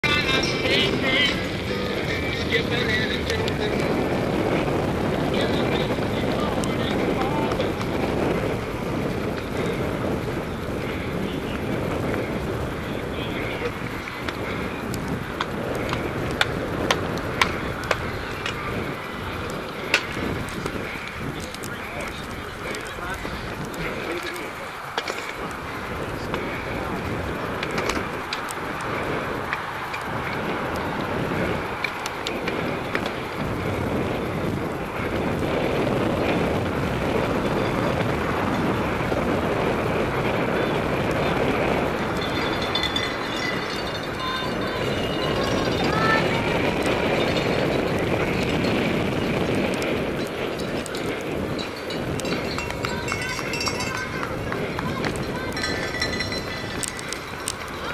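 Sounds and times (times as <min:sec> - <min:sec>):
wind on microphone: 0:00.0 - 0:57.9
bike tyres rumbling on grass: 0:01.1 - 0:57.9.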